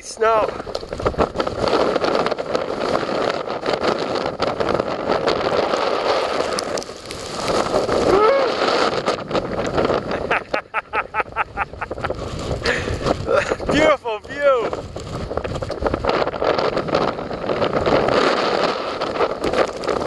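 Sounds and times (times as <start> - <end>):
wind buffeting microphone: 0.0 - 20.0
quick crackles: 0.5 - 10.5, 11.7 - 20.0.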